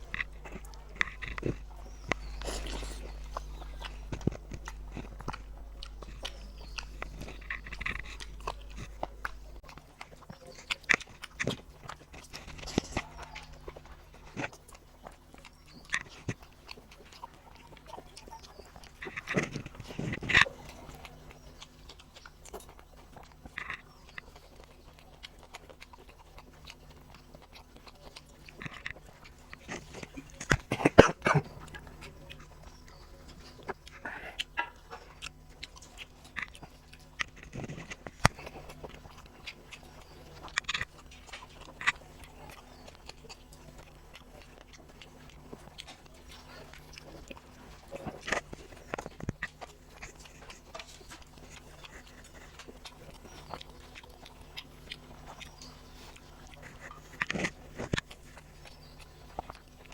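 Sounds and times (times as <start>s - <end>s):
faint steady hum: 0.0s - 59.9s
person chewing food: 0.0s - 59.9s.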